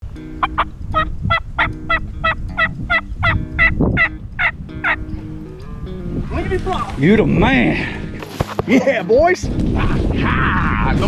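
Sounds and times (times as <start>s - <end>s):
wind rushing: 0.7s - 8.7s, 9.4s - 11.0s.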